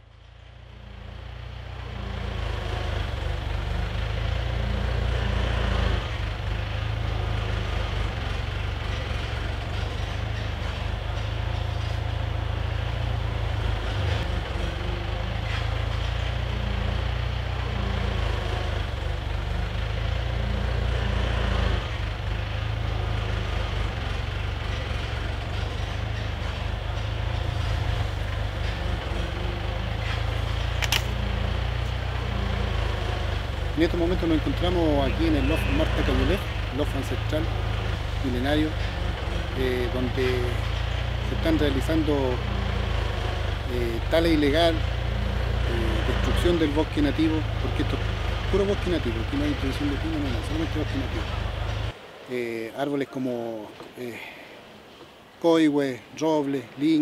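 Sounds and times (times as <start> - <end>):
heavy machinery engines rumbling: 0.0 - 57.0.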